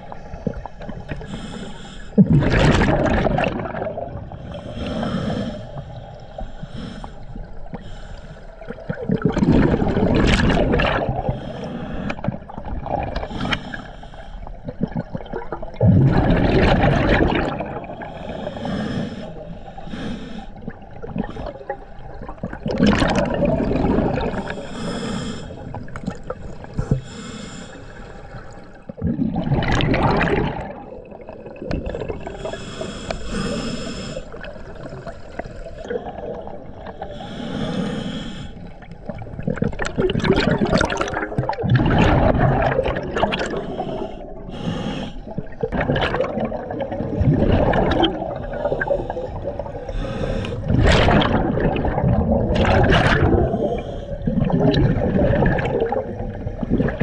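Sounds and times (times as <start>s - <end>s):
scuba regulator breathing bubbles: 0.0s - 57.0s.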